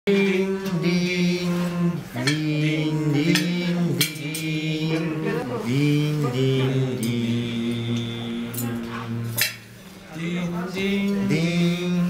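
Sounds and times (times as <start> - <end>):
men singing held notes: 0.1 - 12.0.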